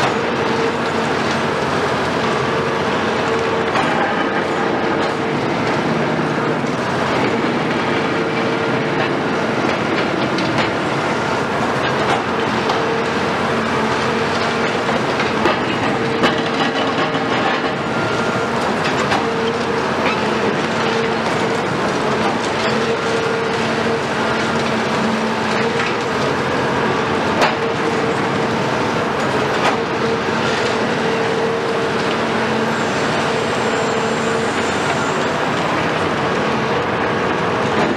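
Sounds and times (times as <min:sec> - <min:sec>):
excavator engine and hydraulics humming: 0:00.0 - 0:37.9.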